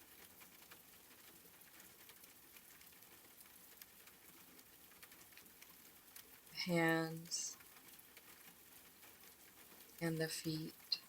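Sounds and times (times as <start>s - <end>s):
soft rain hiss: 0.0s - 11.0s.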